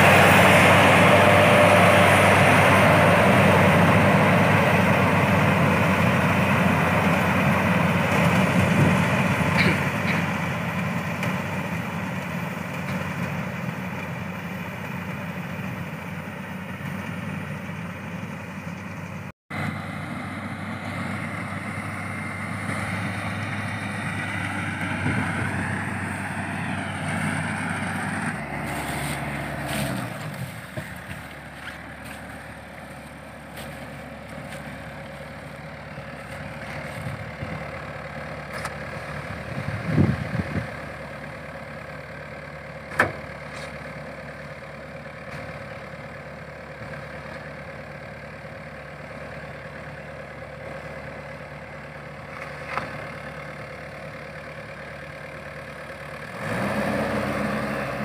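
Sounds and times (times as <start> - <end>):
harvester engine running: 0.0 - 58.0.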